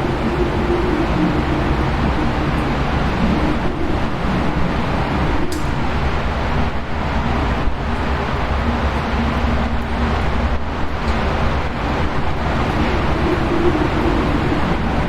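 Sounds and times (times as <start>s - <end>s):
wind rushing and whistling: 0.0s - 15.0s.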